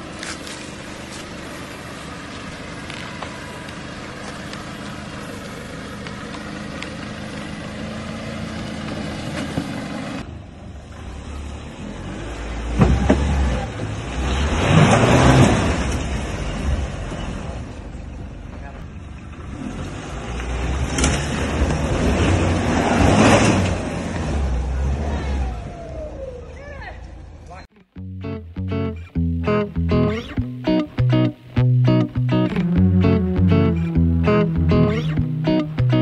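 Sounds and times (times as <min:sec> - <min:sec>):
off-road vehicle engine: 0:00.0 - 0:36.0.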